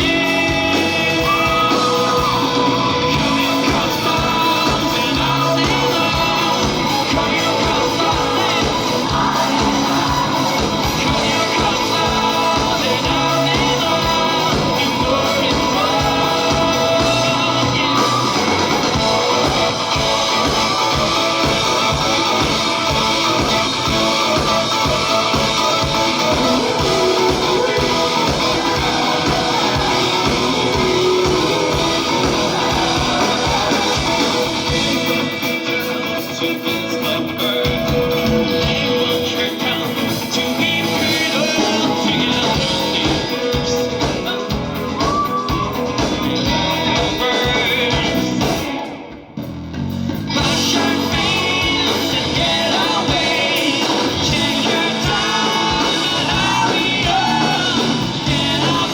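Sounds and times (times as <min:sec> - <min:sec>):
person singing: 0:00.0 - 0:49.2, 0:50.4 - 0:58.9
electric guitars: 0:00.0 - 0:58.9
steady drum beat: 0:00.0 - 0:58.9.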